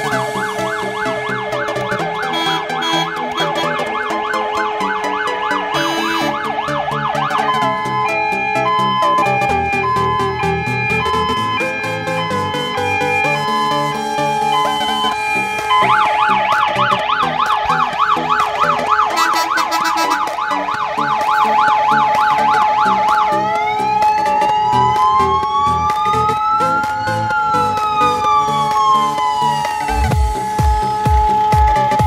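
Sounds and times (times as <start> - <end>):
fire engine siren: 0.0 - 32.0.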